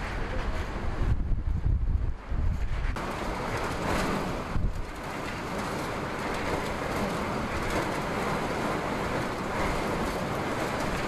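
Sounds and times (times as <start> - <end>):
strong wind blowing: 0.0 - 11.0
wind buffeting microphone: 0.0 - 11.0.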